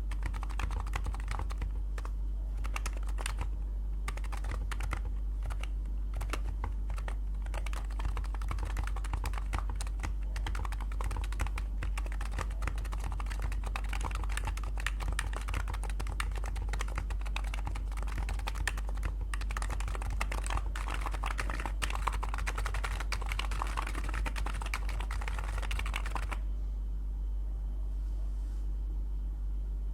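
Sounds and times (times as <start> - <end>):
rapid keyboard typing: 0.0 - 26.4
steady low hum: 0.0 - 29.9.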